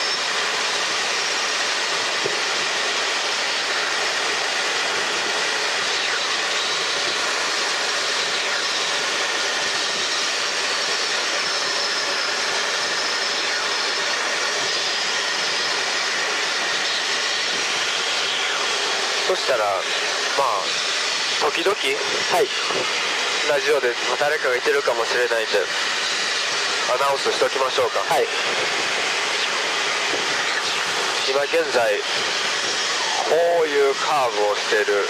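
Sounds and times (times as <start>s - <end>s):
faint steady whines: 0.0s - 35.0s
helicopter engine and rotors drone: 0.0s - 35.0s.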